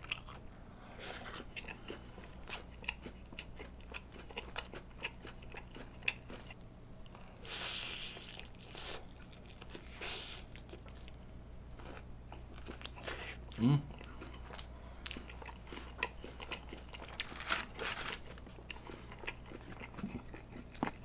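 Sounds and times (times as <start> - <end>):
chewing and crunching: 0.0 - 11.2, 11.8 - 21.0.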